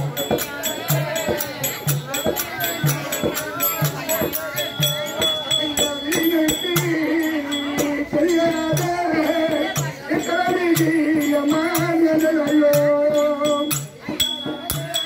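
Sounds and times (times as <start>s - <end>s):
sharp clicking percussion: 0.0s - 15.0s
steady drum beat: 0.0s - 15.0s.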